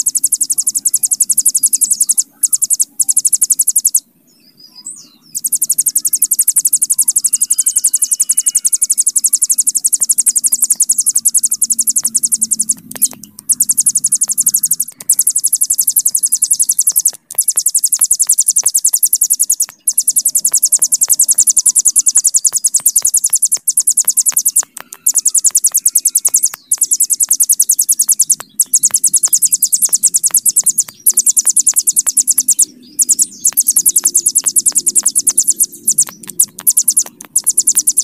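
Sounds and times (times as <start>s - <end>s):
bird high-pitched rapid trill: 0.0s - 38.0s.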